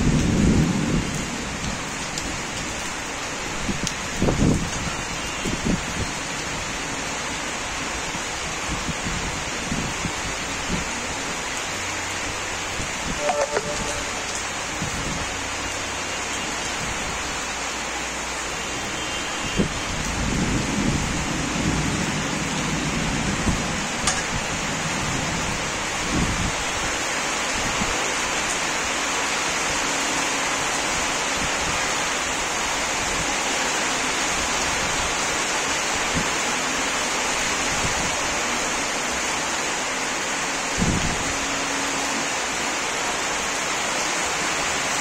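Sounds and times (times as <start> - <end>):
rain hissing: 0.0 - 45.0.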